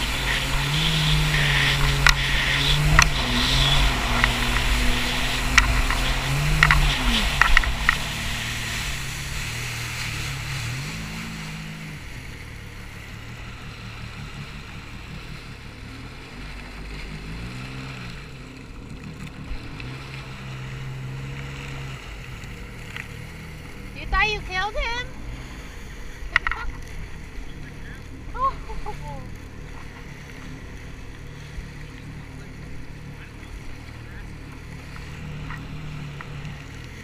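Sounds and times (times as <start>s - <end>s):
jet ski engine revving: 0.0s - 37.0s.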